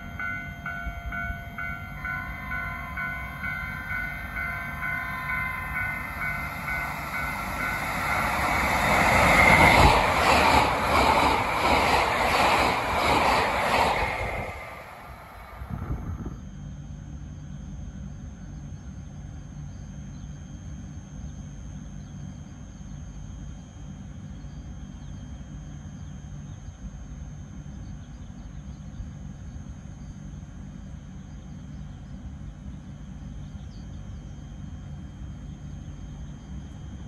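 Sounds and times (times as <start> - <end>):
train equipment low hum: 0.0 - 37.0.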